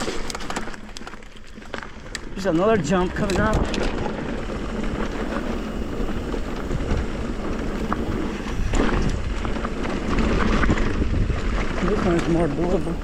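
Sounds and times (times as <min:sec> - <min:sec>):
bike tyres rumbling on dirt: 0:00.0 - 0:13.0
wind over microphone: 0:02.2 - 0:13.0.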